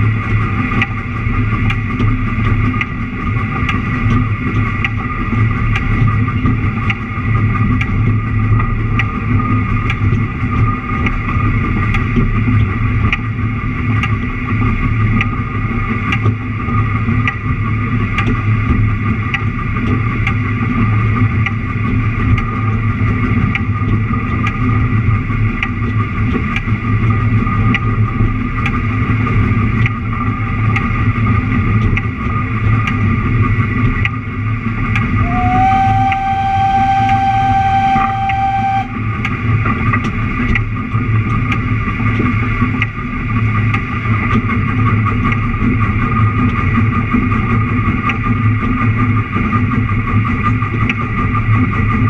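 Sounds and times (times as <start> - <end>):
train engine drone: 0.0 - 52.0.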